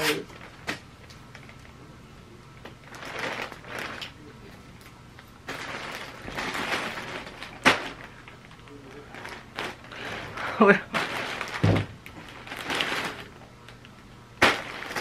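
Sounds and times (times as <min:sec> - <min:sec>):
rustling handling noises: 0:02.5 - 0:15.0.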